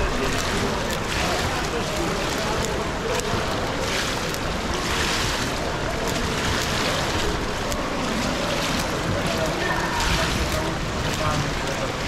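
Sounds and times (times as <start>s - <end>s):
rushing water in pool: 0.0s - 12.0s
water lapping and draining in gutter: 0.0s - 12.0s.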